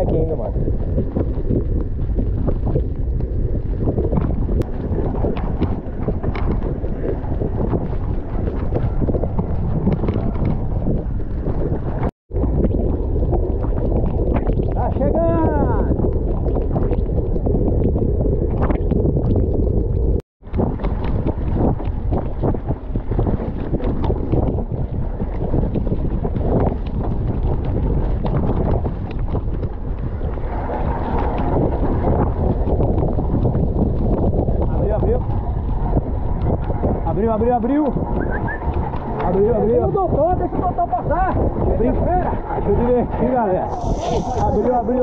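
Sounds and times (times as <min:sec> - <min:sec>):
bike tyre noise: 0:00.0 - 0:45.0
wind noise on microphone: 0:00.0 - 0:45.0.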